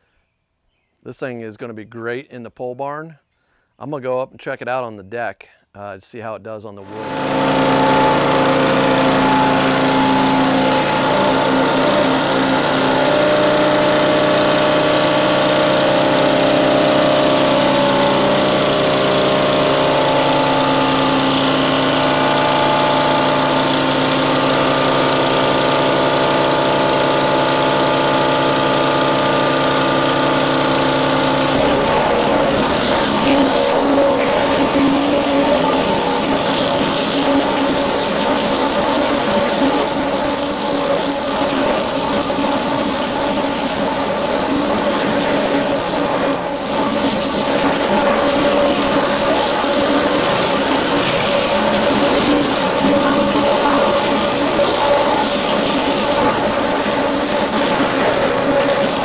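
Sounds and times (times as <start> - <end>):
small gasoline engine running: 6.8 - 59.0
water spraying on wooden deck: 6.9 - 59.0.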